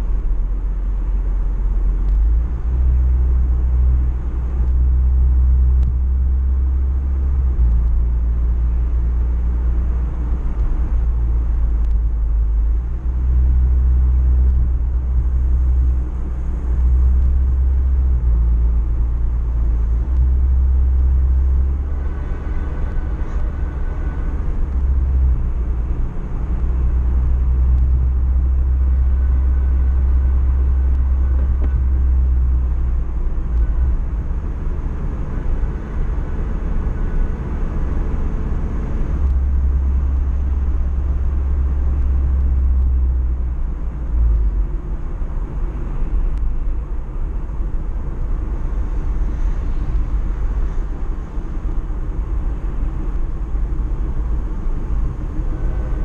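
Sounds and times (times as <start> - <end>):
car road noise rumble: 0.0 - 56.0.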